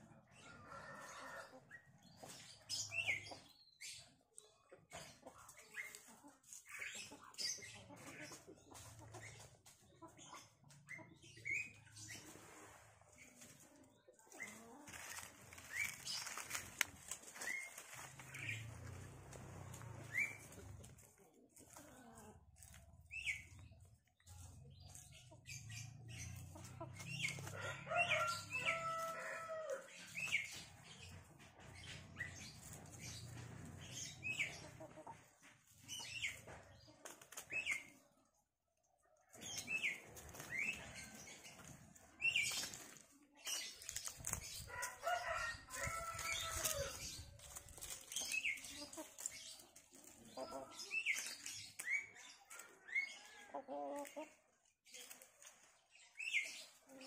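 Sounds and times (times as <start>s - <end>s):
drawn-out chicken calls: 0.0s - 4.1s, 4.9s - 38.0s, 39.3s - 55.8s
chickens clucking: 0.0s - 57.0s
songbirds chirping: 0.0s - 57.0s.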